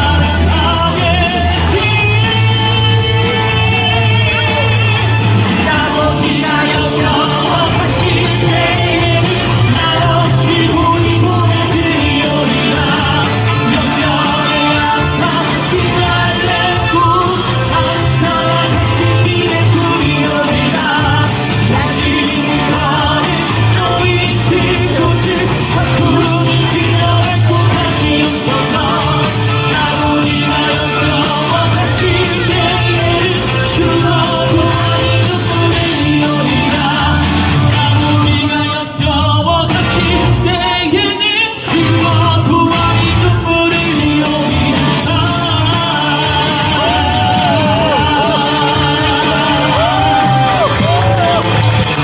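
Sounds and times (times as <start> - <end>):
loud amplified music with bass: 0.0 - 52.0
person singing: 0.0 - 52.0.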